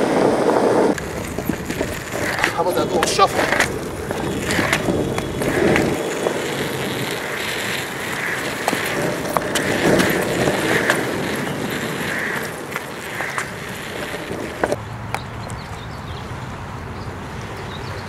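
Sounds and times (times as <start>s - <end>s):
skateboard wheels rolling on asphalt: 0.0s - 18.0s.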